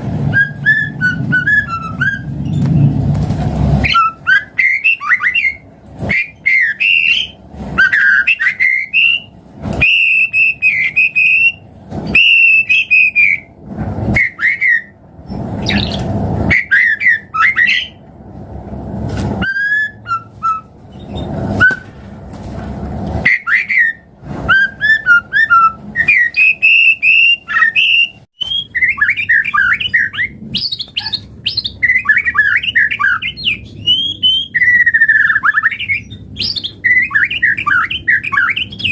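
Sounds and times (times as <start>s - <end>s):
bird singing whistles and chatter: 0.3s - 2.9s, 3.8s - 13.5s, 14.1s - 18.0s, 19.4s - 21.9s, 23.2s - 38.9s.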